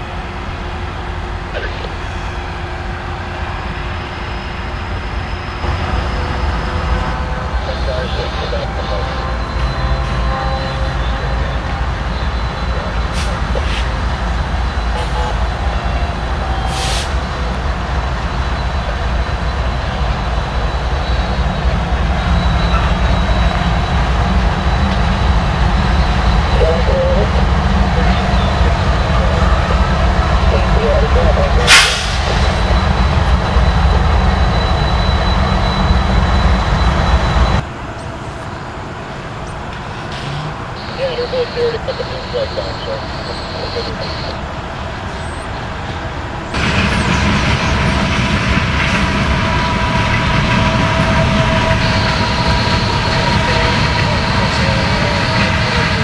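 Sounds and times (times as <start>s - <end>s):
diesel locomotive engines rumbling: 0.0s - 56.0s
high-pitched whine: 0.0s - 56.0s.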